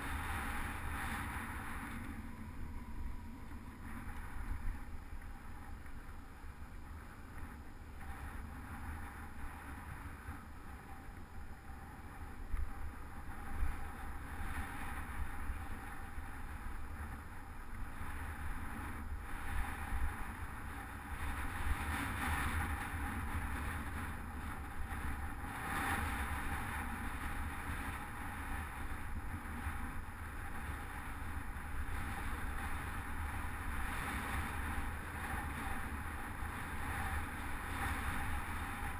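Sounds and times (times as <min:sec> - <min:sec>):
bicycle tyres rumbling on road: 0:00.0 - 0:38.9
wind buffeting microphone: 0:00.0 - 0:38.9.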